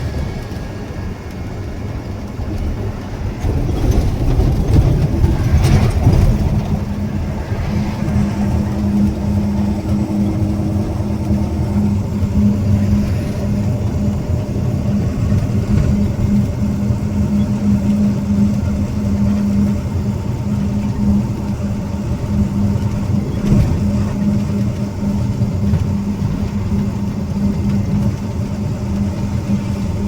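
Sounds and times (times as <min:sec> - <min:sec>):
vehicle engine and road rumble: 0:00.0 - 0:30.0.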